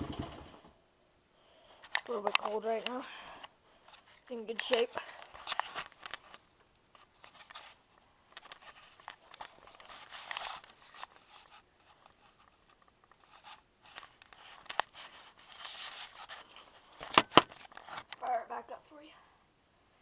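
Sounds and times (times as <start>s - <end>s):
rustling and crinkling handling: 1.8s - 18.8s.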